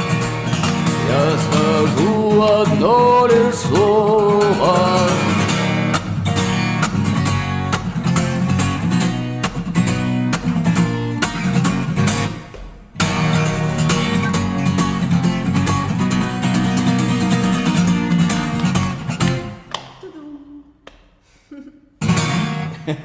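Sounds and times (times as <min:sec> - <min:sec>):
acoustic guitar strumming: 0:00.0 - 0:19.7, 0:22.0 - 0:22.9.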